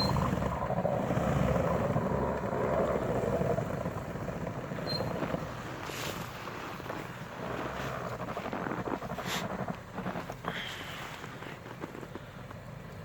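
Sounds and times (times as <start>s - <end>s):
off-road vehicle engine revving: 0.0s - 11.2s.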